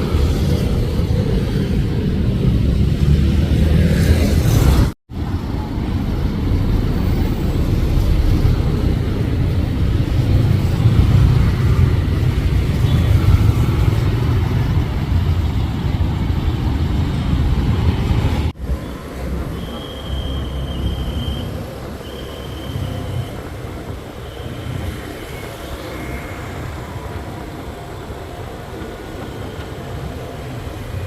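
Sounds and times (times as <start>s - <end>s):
cars and motorbikes passing: 0.0s - 31.0s.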